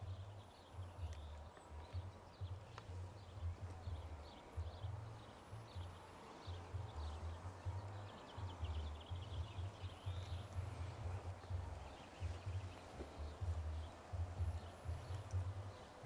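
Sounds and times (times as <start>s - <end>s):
faint high-pitched chirping: 0.0s - 16.0s
wind buffeting microphone: 0.0s - 16.0s.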